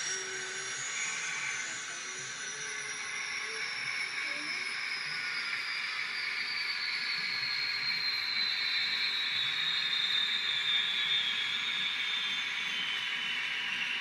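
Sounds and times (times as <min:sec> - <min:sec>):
gas turbine hiss and whine: 0:00.0 - 0:14.0.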